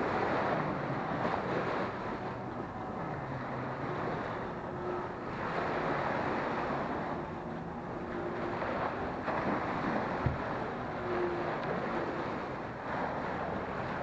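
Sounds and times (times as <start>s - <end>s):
small waves washing on sand: 0.0s - 14.0s.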